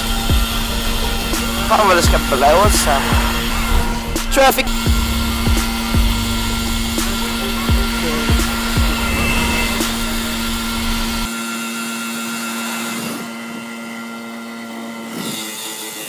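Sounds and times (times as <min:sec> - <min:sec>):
motorbike engine whining: 0:00.0 - 0:16.0.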